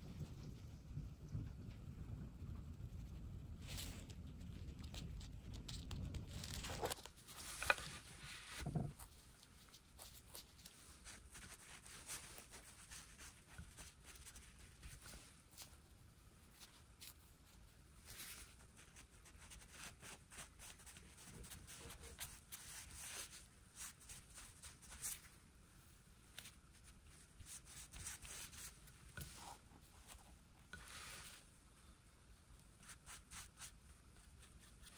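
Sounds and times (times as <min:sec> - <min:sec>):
faint scratching: 0:03.6 - 0:34.9.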